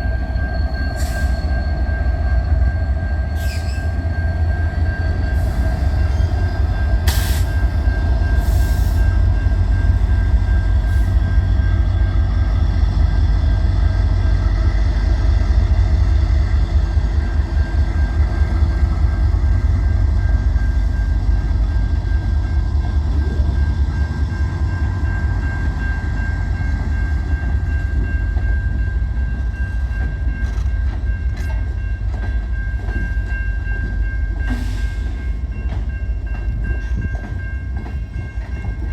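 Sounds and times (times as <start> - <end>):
freight train rumbling: 0.0 - 38.9.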